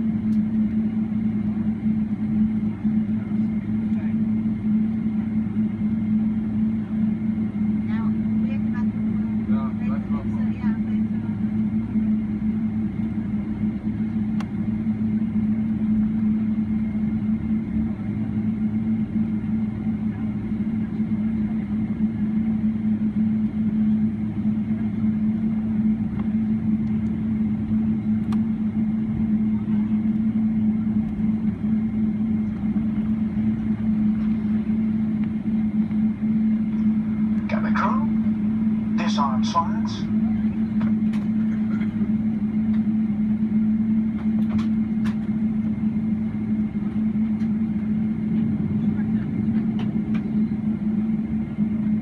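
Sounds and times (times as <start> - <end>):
aircraft cabin drone: 0.0 - 52.0.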